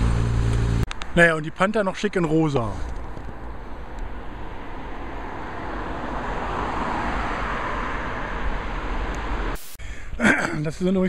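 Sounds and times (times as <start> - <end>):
road traffic noise: 0.0 - 10.6.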